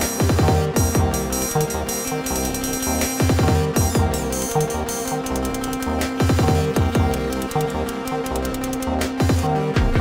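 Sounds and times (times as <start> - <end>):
rapid hi-hat ticks: 0.0 - 9.8
drum machine beat: 0.0 - 10.0
synth bassline: 0.0 - 10.0.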